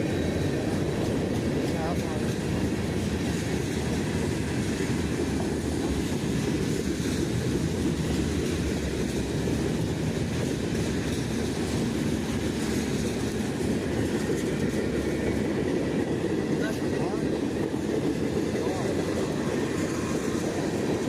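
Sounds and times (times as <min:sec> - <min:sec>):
steel train wheels on rail: 0:00.0 - 0:21.0.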